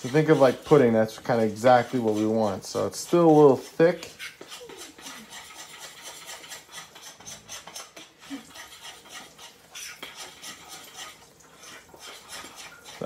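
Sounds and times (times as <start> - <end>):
spoon scraping mixing bowl: 0.0 - 13.0.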